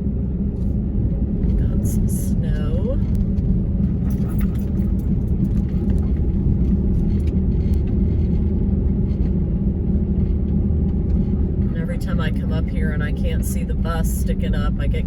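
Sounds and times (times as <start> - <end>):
engine and tyres on wet road: 0.0 - 15.0.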